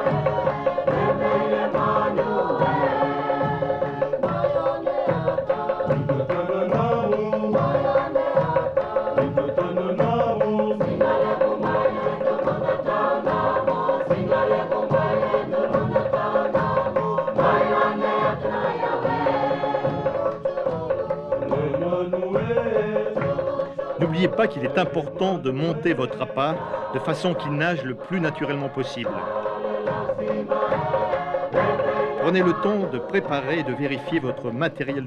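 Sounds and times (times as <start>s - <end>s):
group chant-like singing: 0.0s - 35.0s
steady repeating beat: 0.0s - 35.0s.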